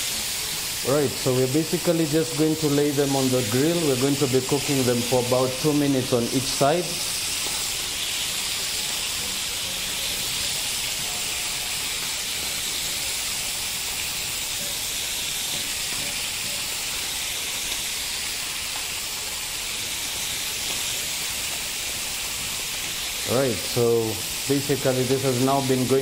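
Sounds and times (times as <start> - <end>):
meat sizzling on grill pan: 0.0 - 26.0.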